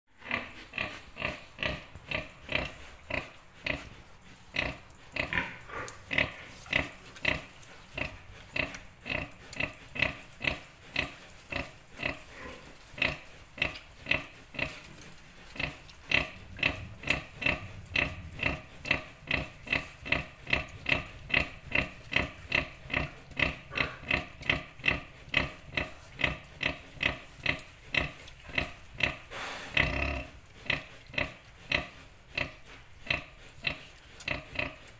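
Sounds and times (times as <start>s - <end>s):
pig grunting: 0.2s - 14.9s, 15.5s - 34.9s.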